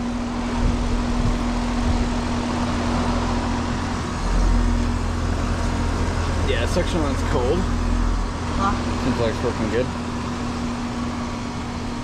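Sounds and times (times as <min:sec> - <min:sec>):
air conditioner fan airflow: 0:00.0 - 0:12.0
compressor humming: 0:00.0 - 0:12.0.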